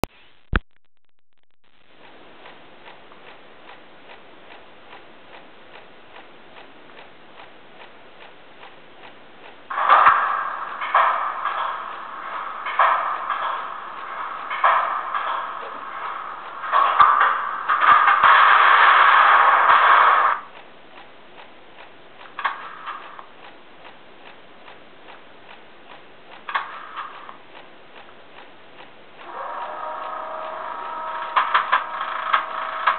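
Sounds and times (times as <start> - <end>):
regular ticking: 0.0 - 32.9.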